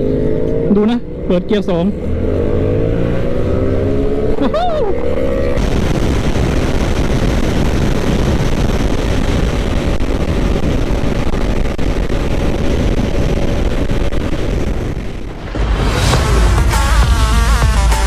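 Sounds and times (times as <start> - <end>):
heavy wind noise: 2.2 - 17.8.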